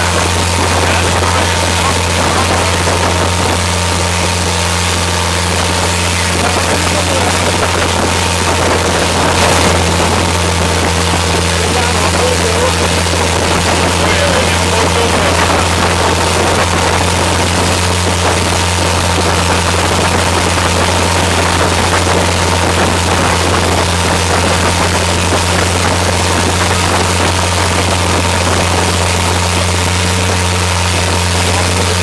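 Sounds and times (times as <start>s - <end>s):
motorboat engine drone: 0.0s - 32.0s
water rushing past hull: 0.0s - 32.0s
wind: 0.0s - 32.0s.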